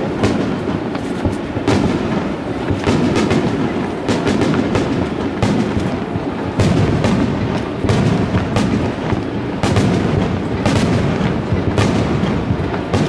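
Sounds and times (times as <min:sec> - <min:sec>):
fireworks booming: 0:00.0 - 0:13.0.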